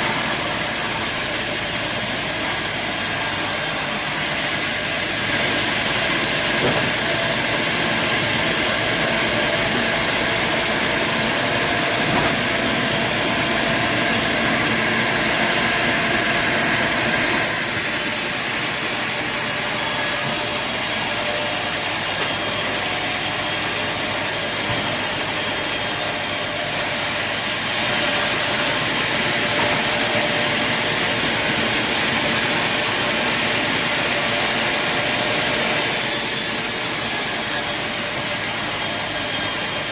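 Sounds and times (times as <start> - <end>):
sawmill saw cutting timber: 0.0 - 39.9.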